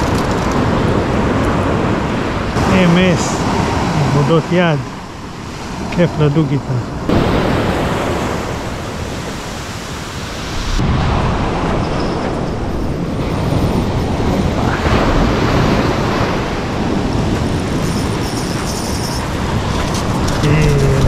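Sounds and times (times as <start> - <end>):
sea waves breaking on beach: 0.0 - 21.0
wind rumble on microphone: 0.0 - 21.0.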